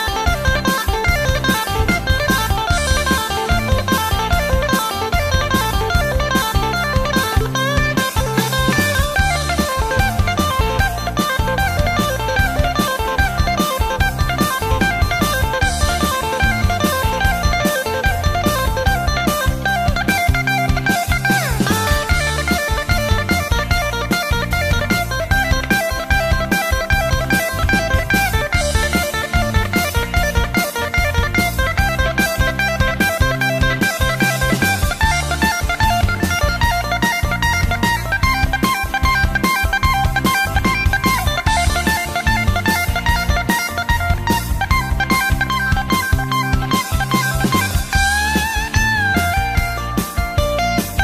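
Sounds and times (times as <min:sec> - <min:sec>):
blues-rock band music: 0:00.0 - 0:51.0.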